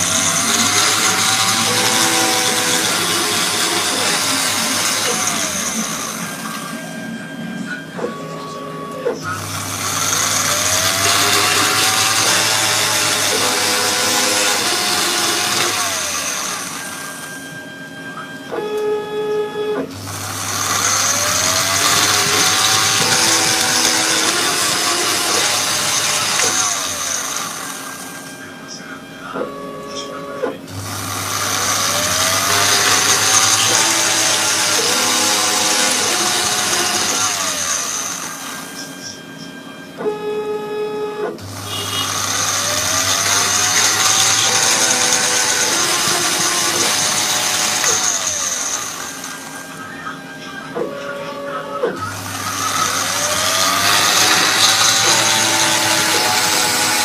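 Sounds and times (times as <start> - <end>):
motor whine: 0.0 - 57.0
router cutting foam: 0.0 - 57.0.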